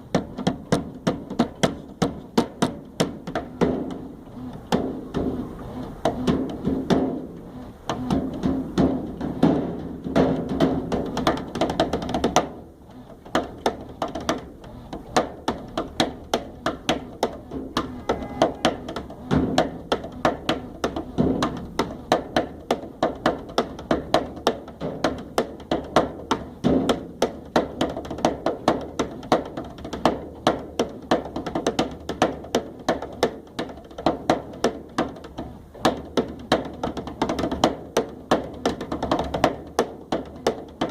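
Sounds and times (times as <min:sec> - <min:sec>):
hand percussion taps and thunks: 0:00.1 - 0:05.4, 0:06.0 - 0:07.2, 0:07.9 - 0:12.6, 0:13.2 - 0:40.9.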